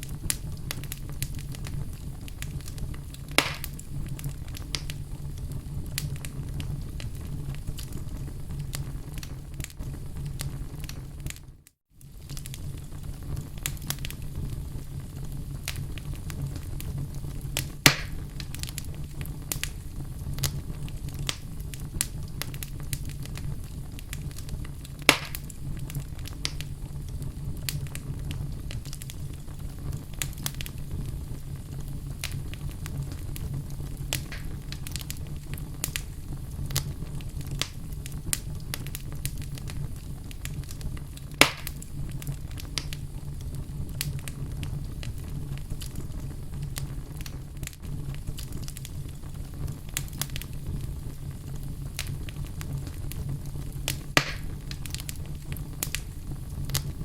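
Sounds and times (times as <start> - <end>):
loud fire pops: 0.0 - 57.0
wood fire crackling: 0.0 - 57.0.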